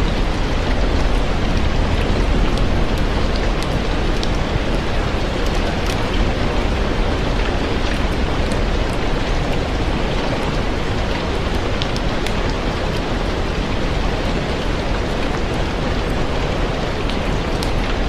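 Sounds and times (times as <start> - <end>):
dense rain: 0.0 - 18.0.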